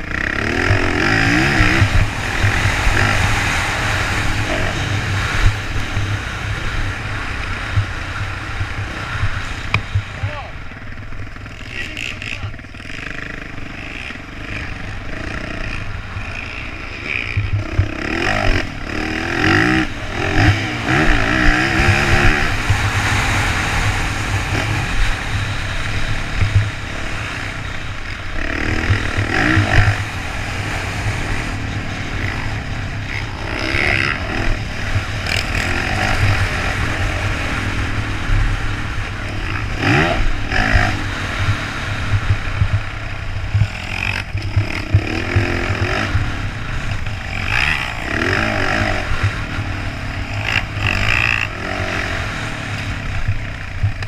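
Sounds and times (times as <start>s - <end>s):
dirt bike engine revving: 0.0s - 54.0s
wind buffeting microphone: 0.6s - 11.3s, 15.9s - 54.0s.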